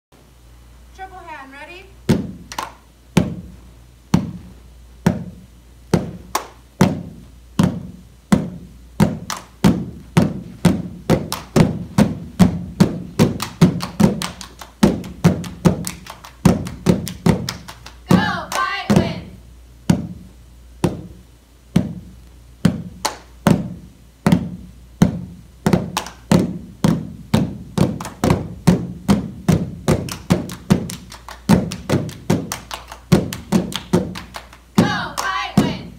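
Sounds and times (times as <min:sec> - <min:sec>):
group hand-clapping rhythm: 0:02.1 - 0:03.5, 0:05.1 - 0:20.2, 0:21.8 - 0:35.9.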